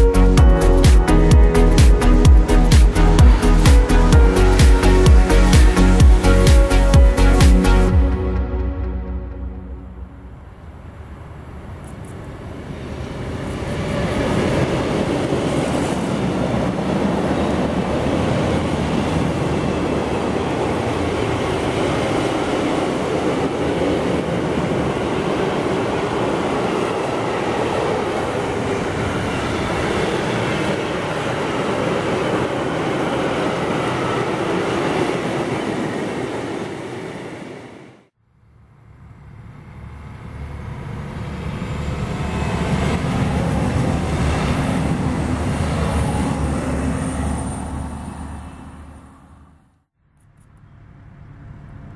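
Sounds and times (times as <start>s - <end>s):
freight train wheels rumbling: 0.1s - 8.0s, 10.2s - 38.1s, 39.1s - 49.5s.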